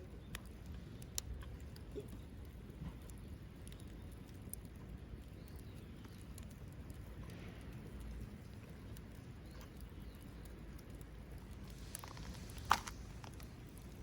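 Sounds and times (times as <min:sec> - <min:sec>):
wood fire crackling and popping: 0:00.0 - 0:14.0
low steady rumble: 0:00.6 - 0:14.0.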